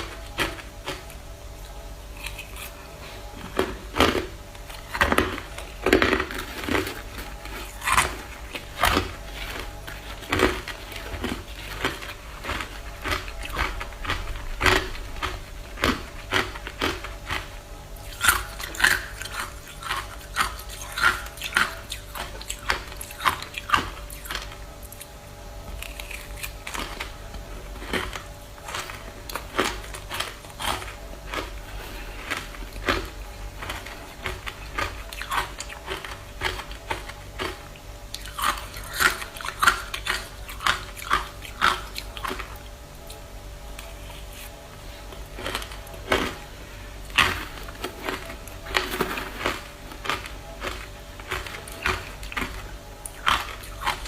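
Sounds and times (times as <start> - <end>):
ice being chewed: 0.0 - 43.2, 43.8 - 54.0.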